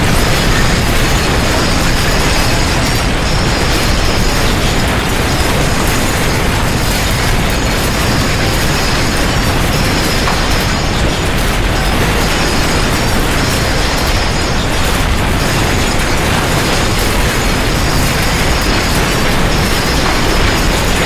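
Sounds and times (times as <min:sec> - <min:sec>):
dense rattling and crackling: 0:00.0 - 0:21.0
earthquake rumble: 0:00.0 - 0:21.0.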